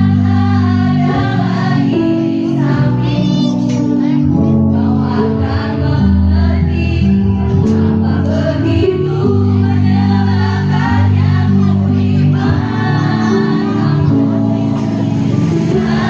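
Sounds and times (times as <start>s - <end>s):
instrumental accompaniment low notes: 0.0s - 16.0s
women's choir singing: 0.0s - 16.0s.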